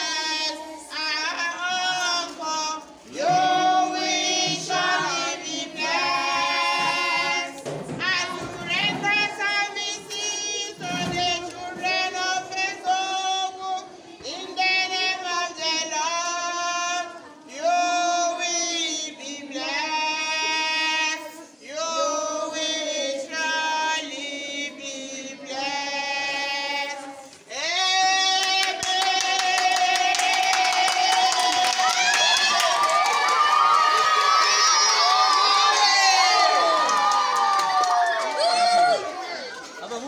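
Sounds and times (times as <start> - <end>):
children singing together: 0.0 - 32.1.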